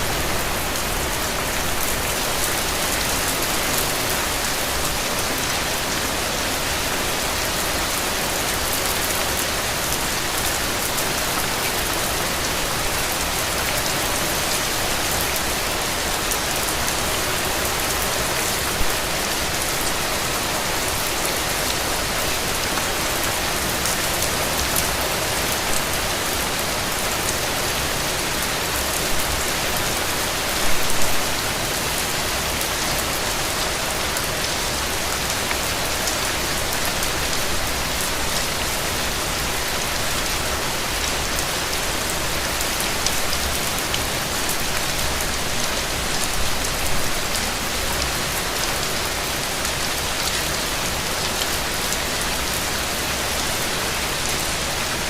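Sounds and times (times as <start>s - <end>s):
rain on a hard surface: 0.0s - 55.0s.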